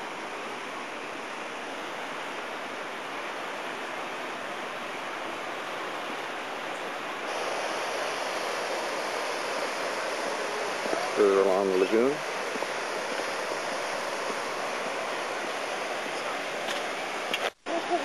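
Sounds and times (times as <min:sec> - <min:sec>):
ocean surf on rocks: 0:00.0 - 0:18.0.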